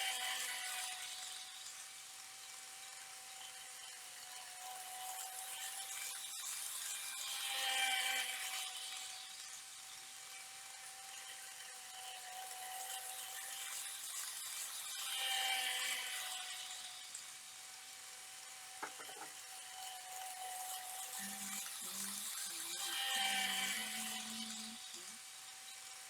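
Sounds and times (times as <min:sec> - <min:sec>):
small electric motor whine: 0:00.0 - 0:26.0.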